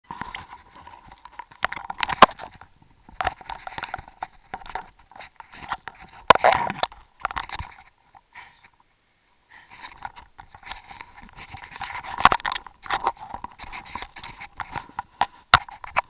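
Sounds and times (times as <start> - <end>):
scuba gear clicking and knocking: 0.1 - 8.3, 9.8 - 16.0.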